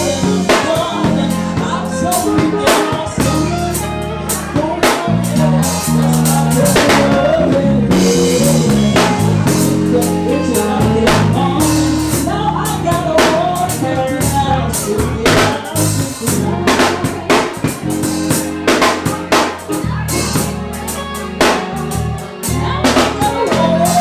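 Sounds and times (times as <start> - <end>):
bass line: 0.0 - 24.0
drum kit beat: 0.0 - 24.0
live band playing: 0.0 - 24.0.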